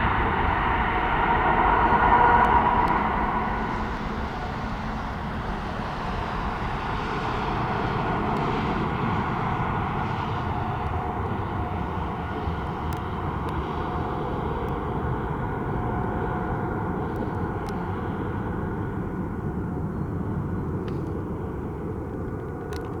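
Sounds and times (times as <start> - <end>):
jet engine roar with whine: 0.0 - 23.0.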